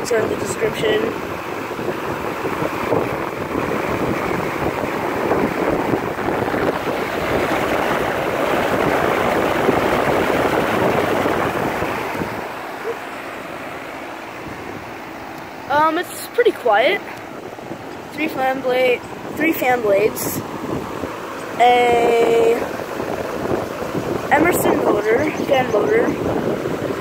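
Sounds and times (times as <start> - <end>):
condenser fan rushing air: 0.0 - 27.0
wind buffeting microphone: 0.0 - 27.0.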